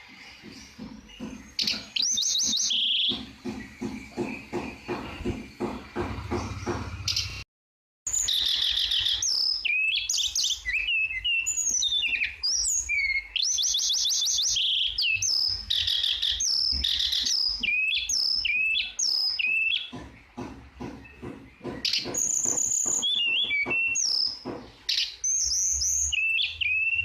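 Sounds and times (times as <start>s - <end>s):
songbird singing: 0.0s - 7.4s, 8.1s - 27.0s.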